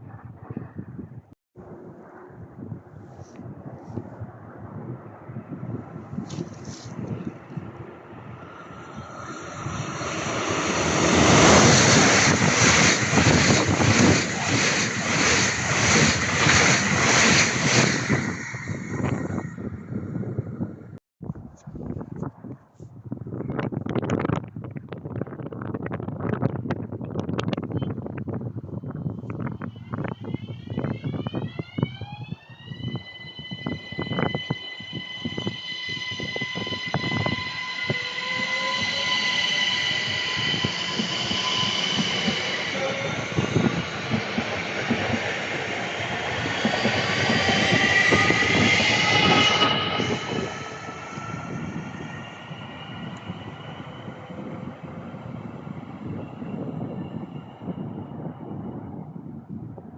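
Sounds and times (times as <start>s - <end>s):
train passing at speed: 1.6s - 20.9s, 29.4s - 59.9s.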